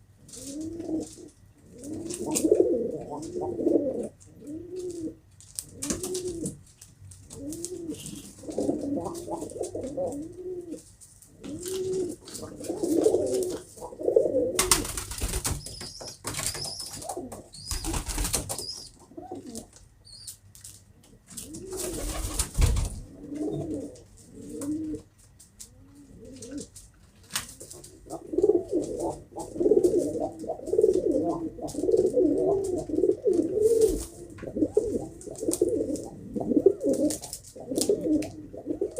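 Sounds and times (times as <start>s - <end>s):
pigeons cooing: 0.0s - 6.7s, 7.3s - 20.3s, 21.3s - 26.8s, 27.4s - 38.9s.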